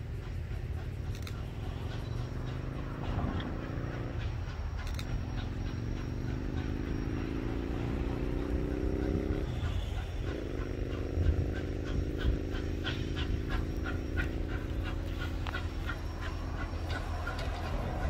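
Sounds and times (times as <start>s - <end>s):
quick regular ticking: 0.0s - 18.0s.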